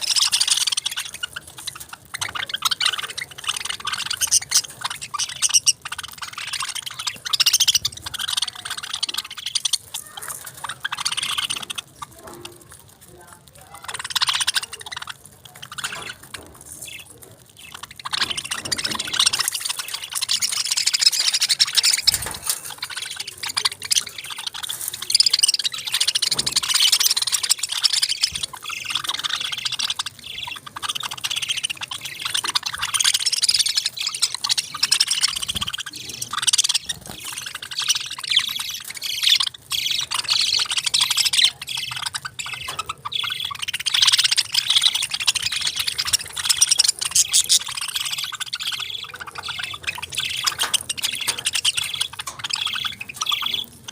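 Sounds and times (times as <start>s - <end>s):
parrots chirping and chattering: 0.0s - 53.9s.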